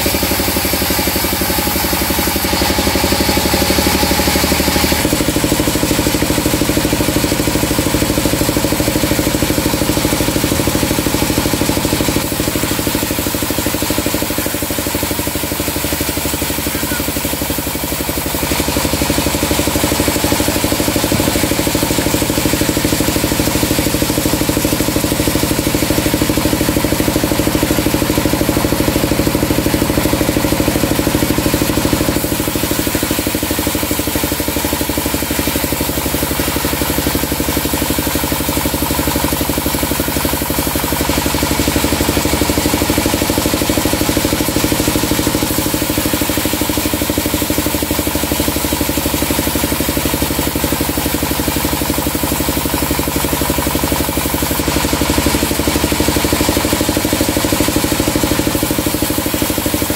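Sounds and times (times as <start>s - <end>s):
band sawmill cutting log: 0.0s - 59.9s.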